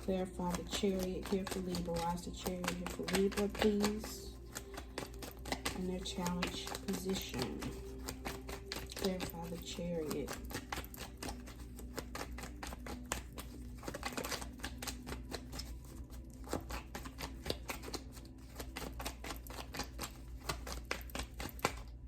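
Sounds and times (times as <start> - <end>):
cards being shuffled: 0.0 - 22.0.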